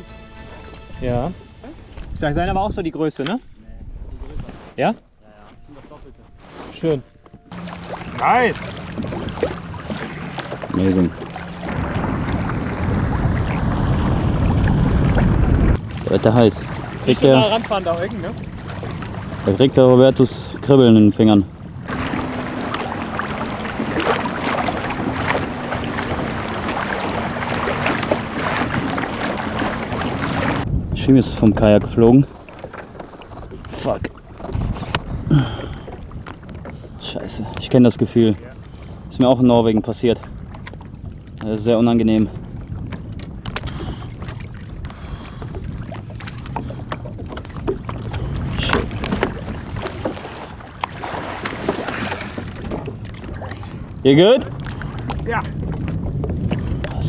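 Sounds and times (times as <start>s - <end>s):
wind buffeting microphone: 0.8s - 57.0s
water splashing around kayak: 3.8s - 57.0s.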